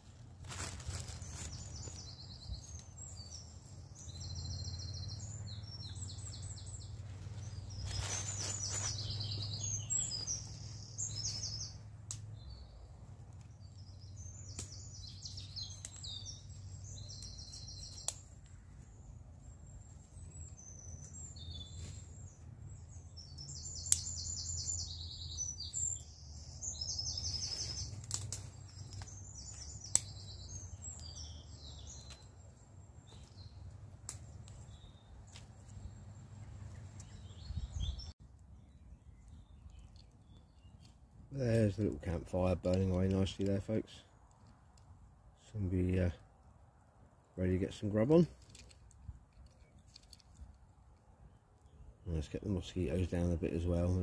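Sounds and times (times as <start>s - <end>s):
songbirds trilling: 0.0s - 46.6s, 47.2s - 54.0s.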